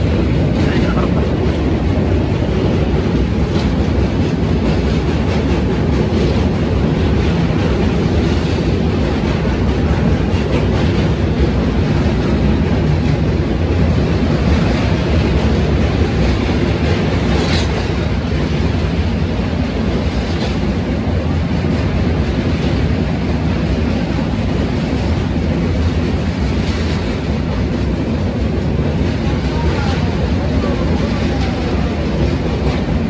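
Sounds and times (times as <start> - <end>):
train rumbling at speed: 0.0 - 33.0.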